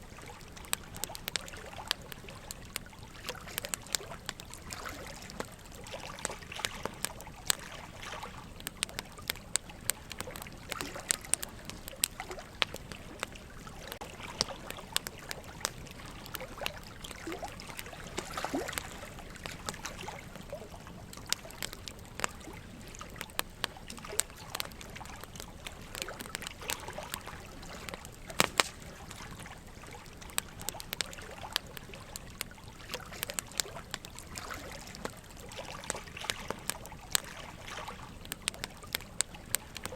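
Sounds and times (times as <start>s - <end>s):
running water trickling: 0.0s - 39.9s
wood fire crackling and popping: 0.0s - 39.9s.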